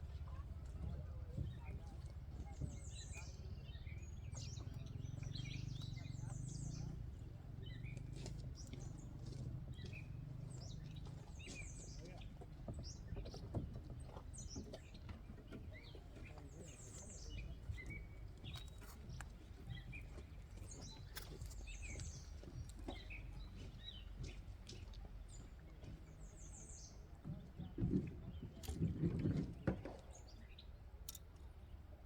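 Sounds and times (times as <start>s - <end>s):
low background rumble: 0.0s - 32.0s
small birds chirping: 0.0s - 32.0s.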